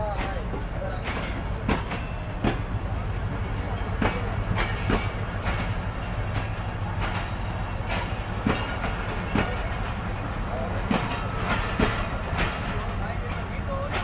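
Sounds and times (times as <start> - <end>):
low diesel hum: 0.0 - 14.0
train wheels clicking over rail joints: 0.0 - 14.0.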